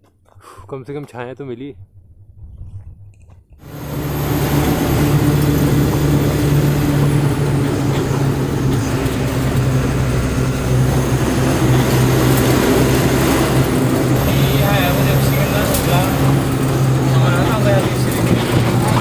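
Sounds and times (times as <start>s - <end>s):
truck engine and road noise: 3.6s - 19.0s.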